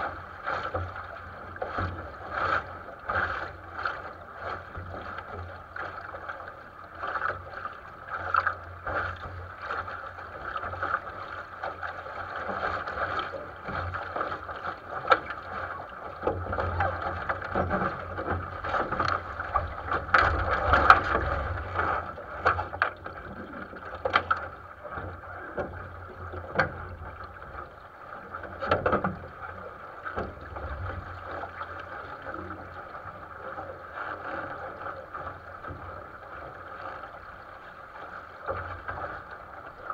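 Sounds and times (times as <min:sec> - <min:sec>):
water rushing against a hull: 0:00.0 - 0:39.9
water slaps and knocks on hull: 0:00.0 - 0:39.9.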